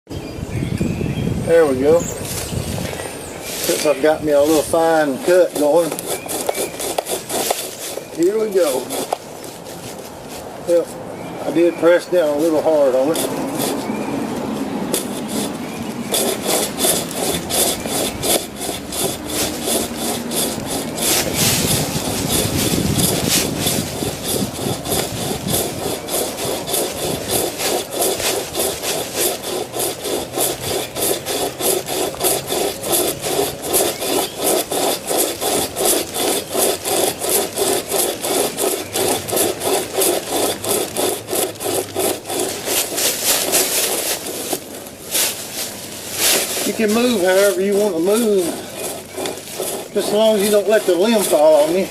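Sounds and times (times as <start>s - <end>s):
hand chain saw rasping through wood: 1.6s - 51.9s.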